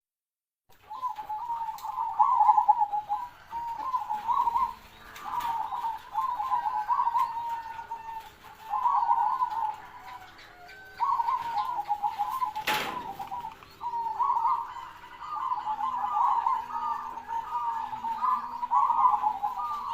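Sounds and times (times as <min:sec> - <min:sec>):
dove cooing: 0:00.7 - 0:19.9.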